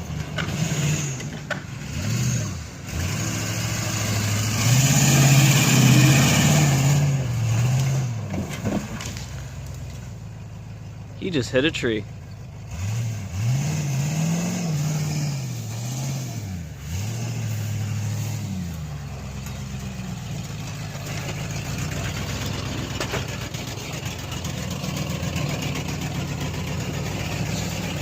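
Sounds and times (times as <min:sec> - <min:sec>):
truck engine revving and idling: 0:00.0 - 0:28.0.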